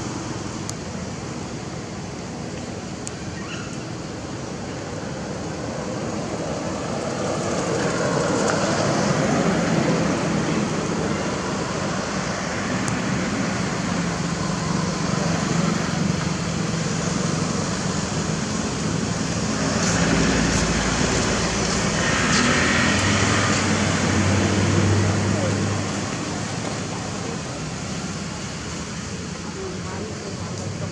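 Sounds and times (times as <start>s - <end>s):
road traffic engine hum: 0.0s - 30.9s.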